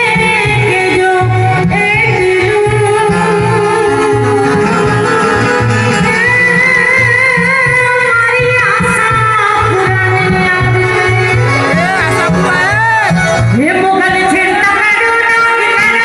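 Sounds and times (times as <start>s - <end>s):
keyboard melody: 0.0s - 16.0s.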